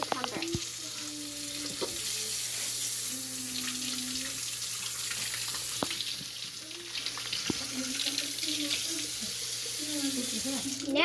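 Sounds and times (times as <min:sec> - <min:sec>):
faucet running: 0:00.0 - 0:11.0.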